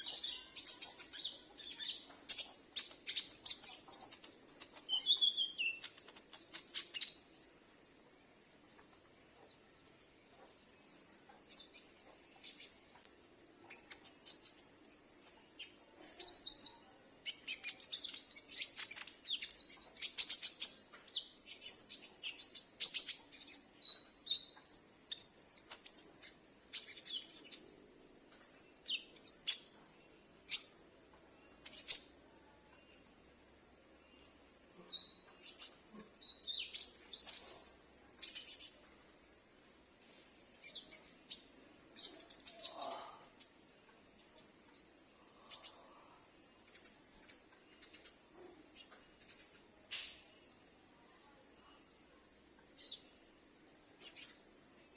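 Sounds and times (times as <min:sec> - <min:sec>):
sunbird chirping and twittering: 0:00.0 - 0:54.9.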